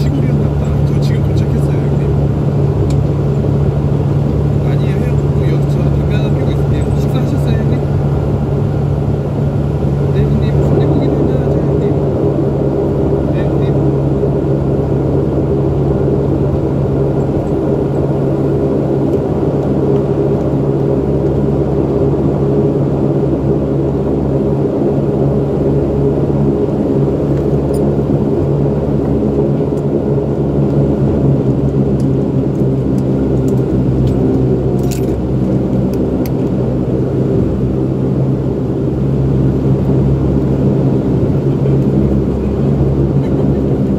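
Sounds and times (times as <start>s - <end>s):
turboprop engines droning: 0.0s - 43.9s.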